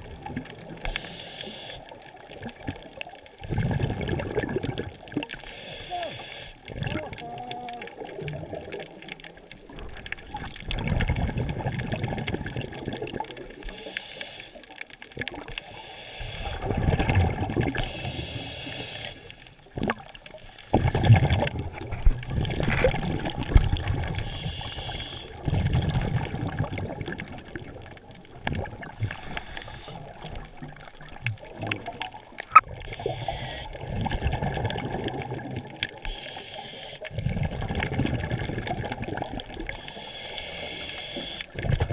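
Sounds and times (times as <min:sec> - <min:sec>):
water sloshing underwater: 0:00.0 - 0:41.9.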